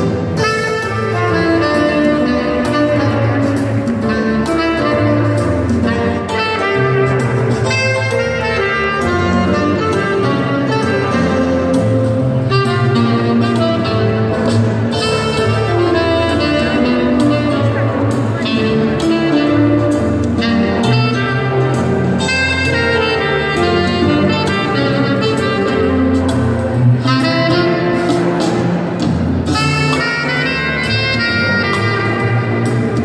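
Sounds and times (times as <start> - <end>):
instrumental music with bass line: 0.0 - 33.0.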